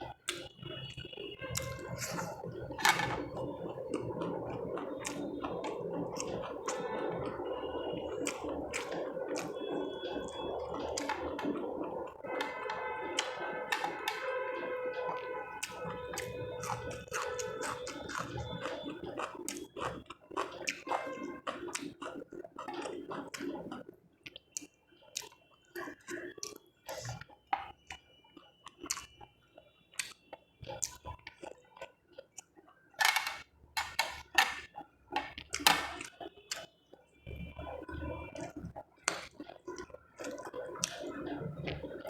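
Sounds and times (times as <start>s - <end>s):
person chewing with wet smacks: 0.0s - 42.0s.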